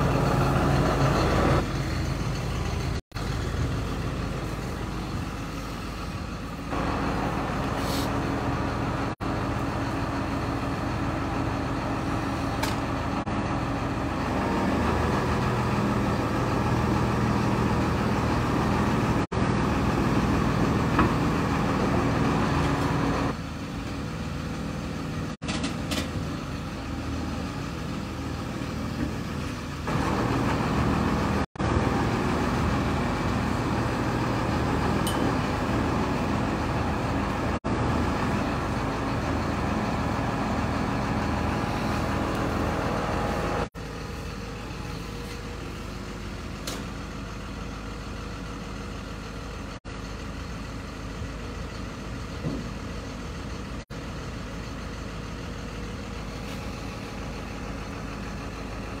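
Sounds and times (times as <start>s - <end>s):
heavy diesel engine idling: 0.0s - 59.0s.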